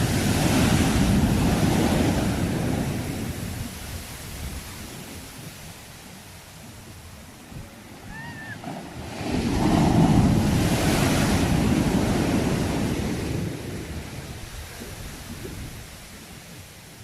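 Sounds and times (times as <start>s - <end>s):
sea wave breaking: 0.0s - 16.6s.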